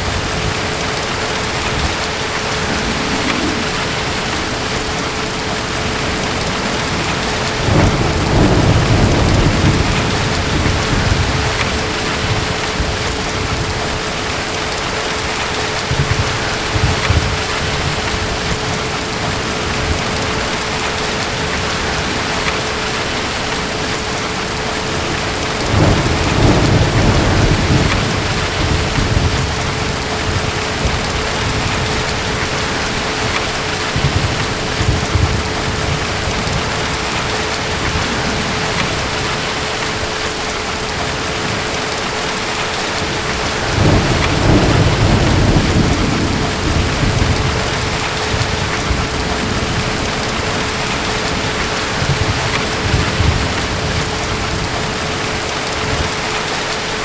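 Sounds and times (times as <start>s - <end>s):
distant thunder rumbling: 0.0s - 57.0s
heavy rain: 0.0s - 57.0s.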